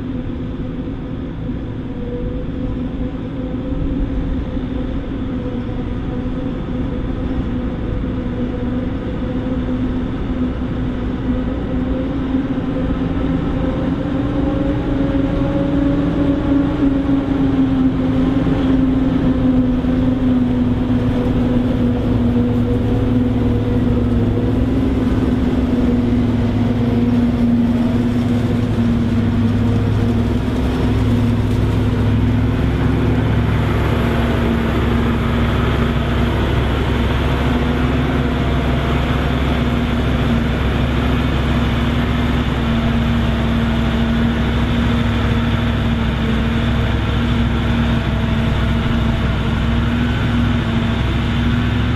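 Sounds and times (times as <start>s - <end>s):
forage harvester drone: 0.0s - 51.9s
tractor engine running: 0.0s - 51.9s.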